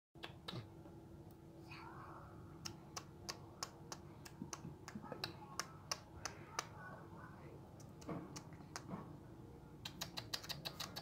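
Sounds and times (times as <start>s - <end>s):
low steady hum: 0.2s - 11.0s.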